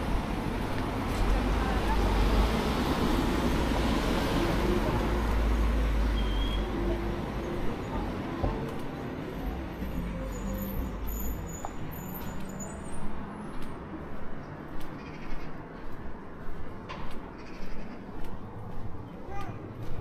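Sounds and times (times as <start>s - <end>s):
footsteps on pavement: 0.0s - 10.1s, 10.8s - 20.0s
car engine and tyres rumbling: 0.0s - 20.0s.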